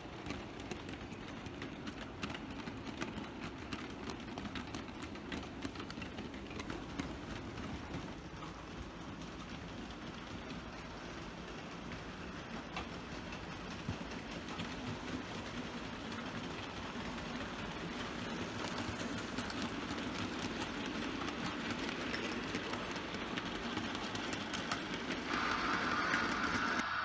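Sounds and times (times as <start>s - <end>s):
wagons rattling: 0.0s - 26.8s
model train wheels clicking: 0.0s - 27.0s.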